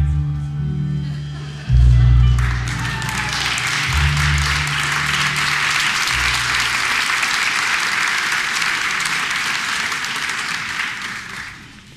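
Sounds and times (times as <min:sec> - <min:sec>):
audience applauding: 0:02.3 - 0:11.9.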